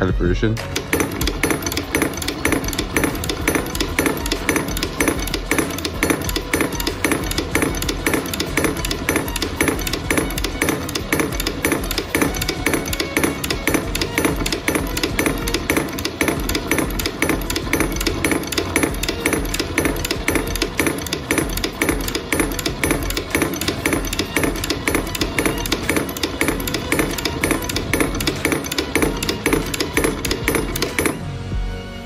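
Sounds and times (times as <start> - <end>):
metal cup clacking on base: 0.6 - 31.2
drive motor hum: 0.6 - 31.4.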